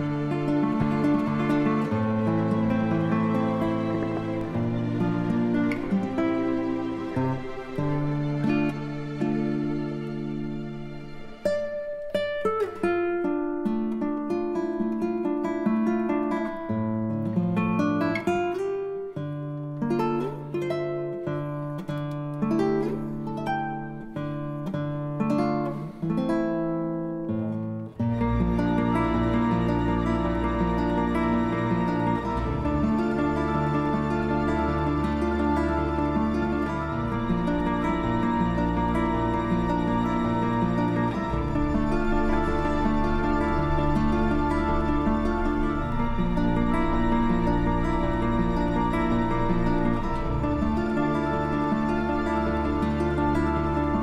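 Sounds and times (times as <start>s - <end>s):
acoustic guitar: 0.0s - 54.0s
gentle instrumental music: 0.0s - 54.0s.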